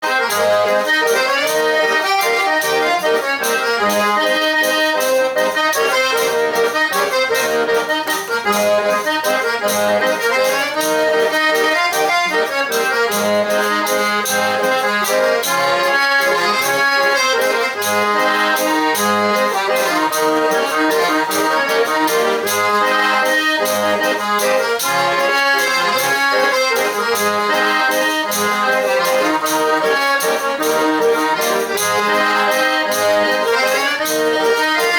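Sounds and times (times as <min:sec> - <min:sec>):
button accordion dance tune: 0:00.0 - 0:34.9.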